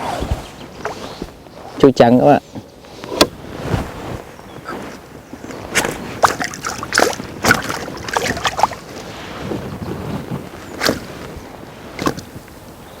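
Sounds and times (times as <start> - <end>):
water splashing and sloshing: 0.0 - 1.5, 3.3 - 12.5.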